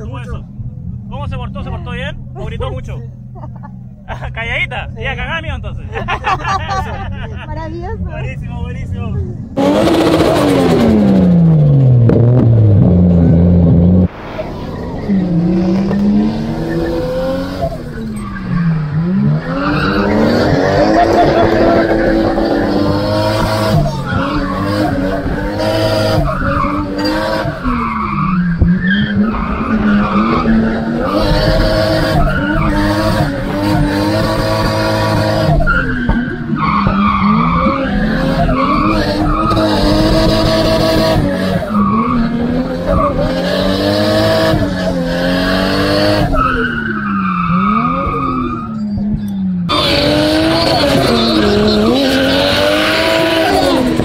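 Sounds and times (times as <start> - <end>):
car engine revving: 8.7 - 54.0.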